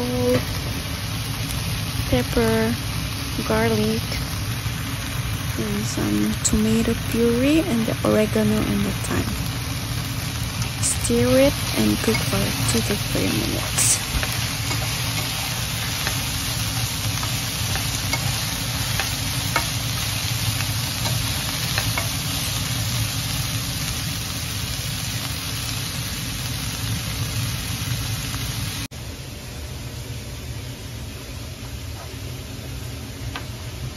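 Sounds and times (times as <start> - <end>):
food sizzling in a frying pan: 0.0 - 28.9.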